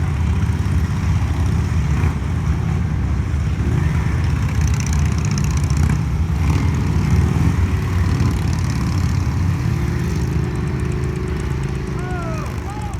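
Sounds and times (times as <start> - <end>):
motorcycle engines rumbling: 0.0 - 12.9.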